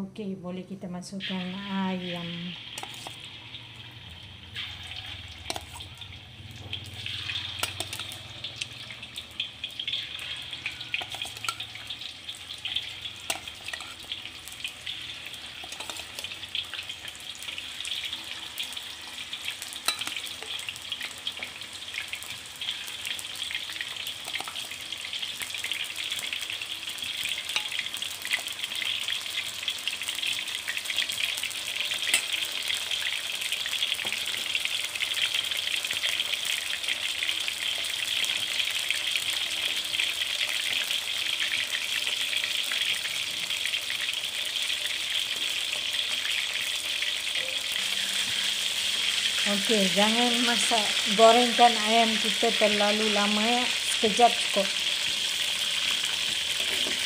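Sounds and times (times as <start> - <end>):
chicken sizzling in hot oil: 1.2 - 57.0.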